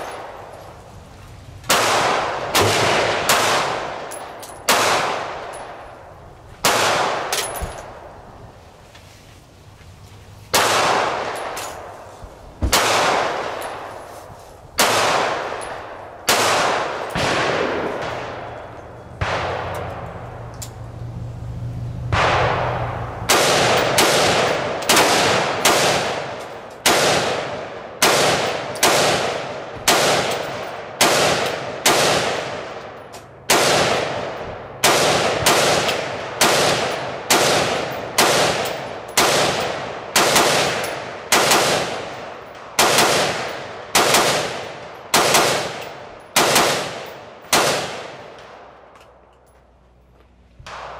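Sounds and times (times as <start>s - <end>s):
gunshots with ringing echo: 1.7s - 8.2s, 10.5s - 12.0s, 12.6s - 14.0s, 14.8s - 20.5s, 22.0s - 48.9s, 50.6s - 50.9s.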